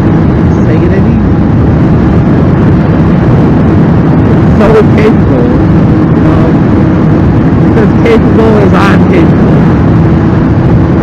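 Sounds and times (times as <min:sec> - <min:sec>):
wind rush: 0:00.0 - 0:11.0.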